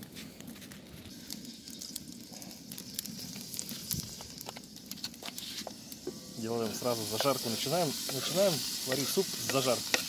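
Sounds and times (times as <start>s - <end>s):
fire hissing and crackling: 0.0s - 10.0s.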